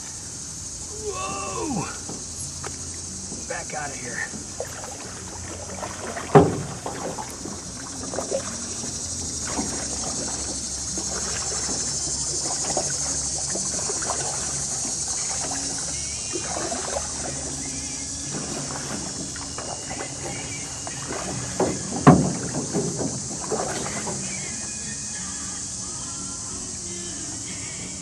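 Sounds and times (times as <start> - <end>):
steady high hiss: 0.0 - 28.0
paddle splashes and drips: 0.1 - 25.8
paddle knocking against hull: 1.0 - 25.1.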